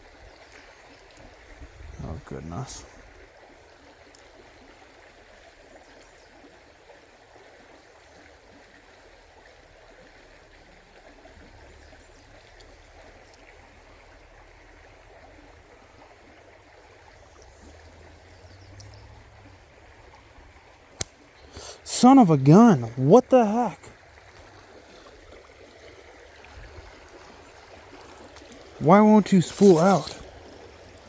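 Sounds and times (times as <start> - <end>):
creek water running: 0.0 - 31.0.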